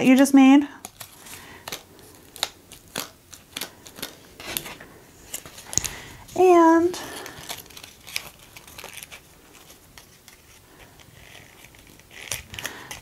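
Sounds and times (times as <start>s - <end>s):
paper crinkling and rustling: 0.8s - 13.0s.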